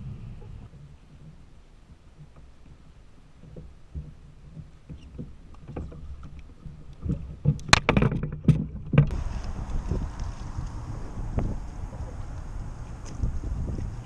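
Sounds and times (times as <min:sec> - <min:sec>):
water noise: 0:00.0 - 0:14.0
wind: 0:00.0 - 0:14.0
knocks and rattles on plastic kayak: 0:00.3 - 0:14.0.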